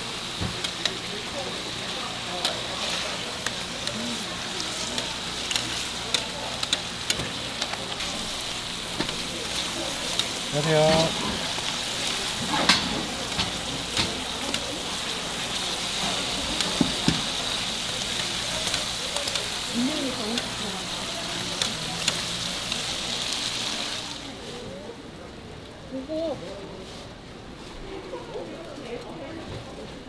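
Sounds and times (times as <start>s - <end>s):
meat sizzling on a griddle: 0.0s - 24.5s.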